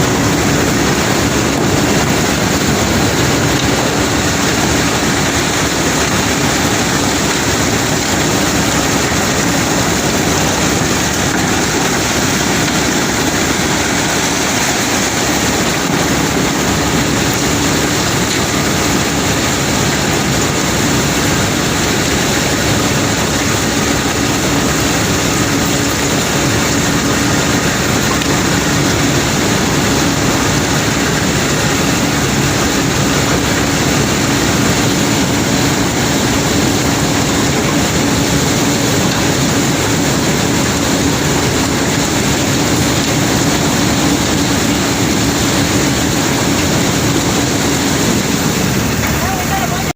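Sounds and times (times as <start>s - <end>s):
heavy machinery engine hum: 0.0s - 49.9s.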